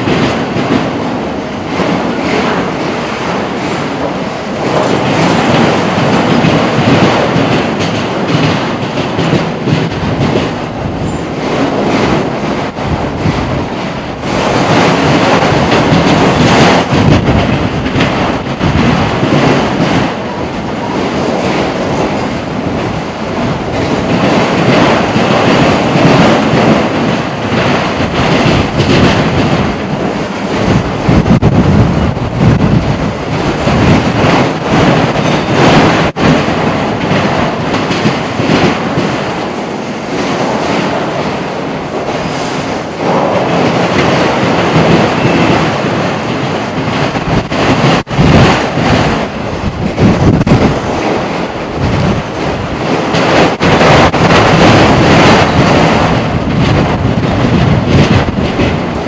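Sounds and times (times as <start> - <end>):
train wheels clacking on rails: 0.0 - 59.0.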